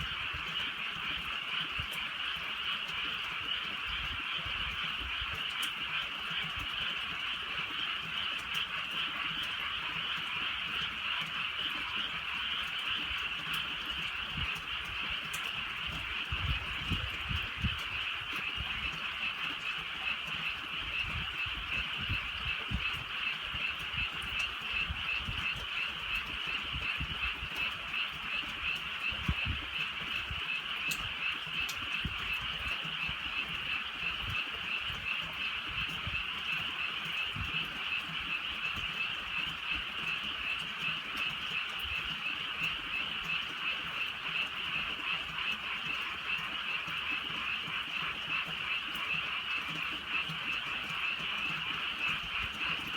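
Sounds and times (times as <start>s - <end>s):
frogs chorus trilling: 0.0s - 52.9s.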